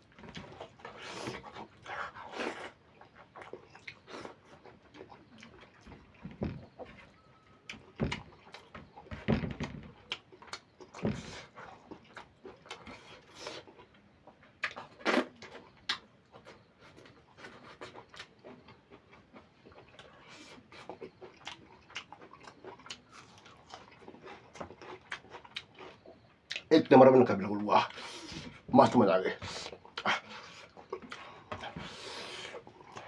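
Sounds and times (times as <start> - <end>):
person chewing food: 0.0 - 26.7, 29.5 - 33.0.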